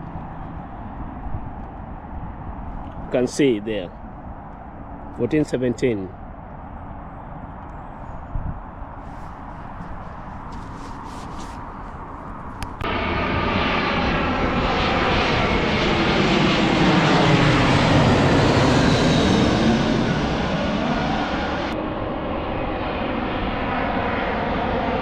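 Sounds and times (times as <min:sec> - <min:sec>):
airliner passing overhead: 0:00.0 - 0:25.0.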